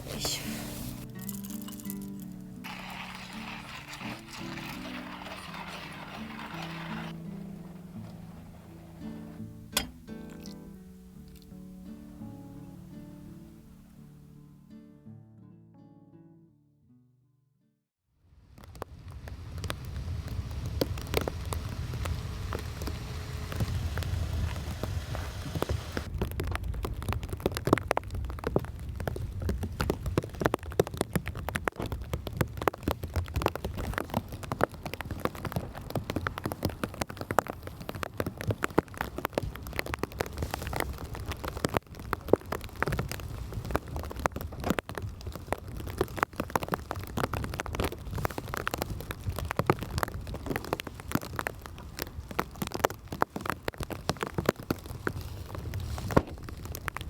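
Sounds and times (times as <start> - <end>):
heavy rain falling: 0.0 - 9.8, 18.4 - 57.0.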